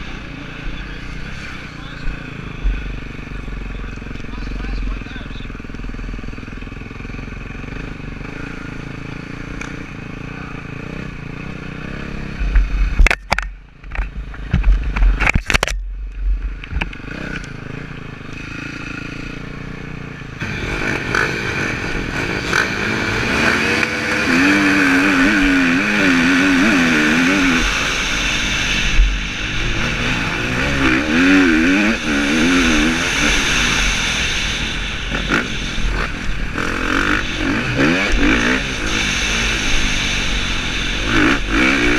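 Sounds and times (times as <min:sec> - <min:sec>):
motocross bike engines revving: 0:00.0 - 0:15.3, 0:16.4 - 0:41.9.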